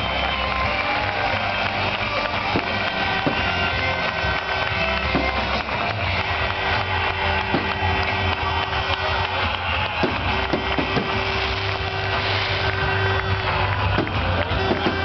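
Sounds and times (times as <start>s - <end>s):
dense crowd noise: 0.0s - 15.0s
stadium music: 0.0s - 15.0s.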